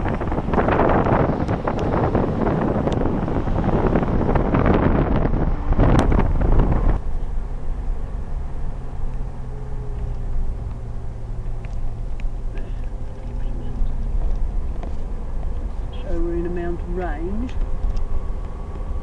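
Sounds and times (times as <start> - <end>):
low hum of car driving: 0.0 - 19.0
wind buffeting microphone: 0.0 - 19.0.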